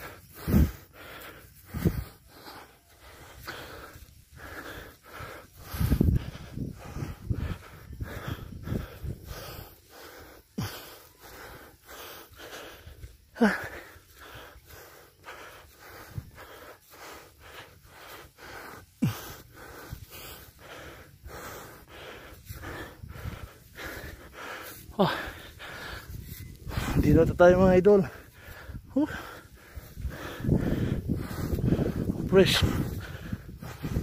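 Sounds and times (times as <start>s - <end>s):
person panting hard: 0.0s - 34.0s.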